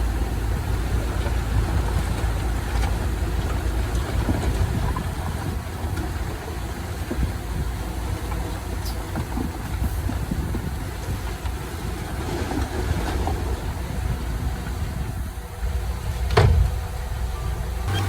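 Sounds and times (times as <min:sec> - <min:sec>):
heavy machinery engine rumble: 0:00.0 - 0:18.0.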